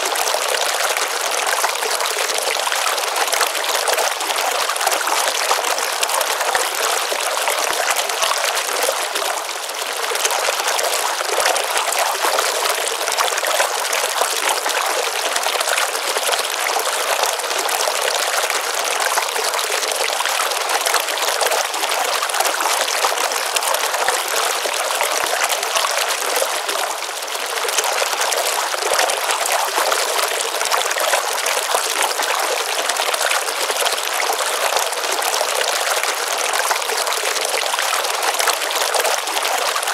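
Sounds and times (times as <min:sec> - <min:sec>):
stream splashing into pond: 0:00.0 - 0:39.9.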